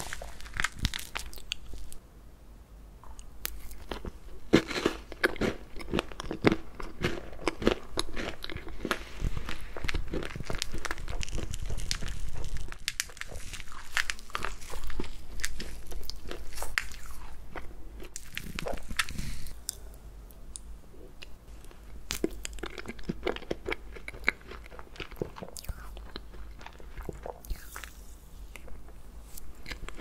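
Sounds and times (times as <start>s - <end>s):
crunchy cake being eaten: 3.4s - 19.8s, 21.7s - 30.0s.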